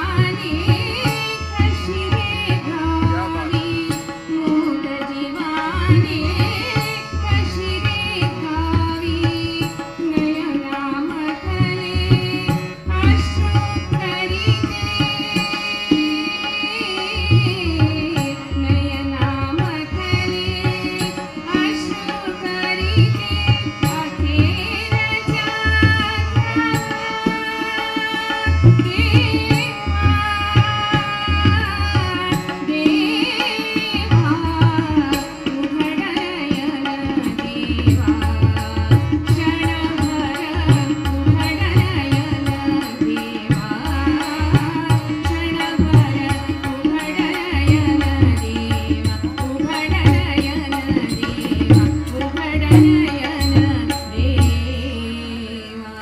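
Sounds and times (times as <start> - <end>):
women singing: 0.0 - 56.0.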